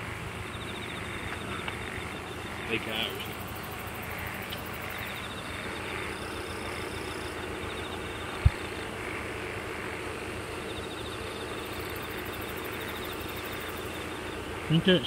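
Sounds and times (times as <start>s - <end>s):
faint steady hum: 0.0s - 15.0s
insects trilling: 0.0s - 15.0s.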